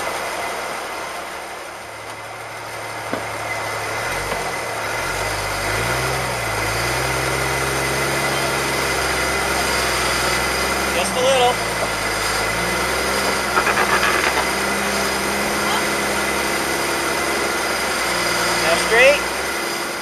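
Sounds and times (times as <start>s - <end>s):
car engine revving and droning: 2.4s - 20.0s.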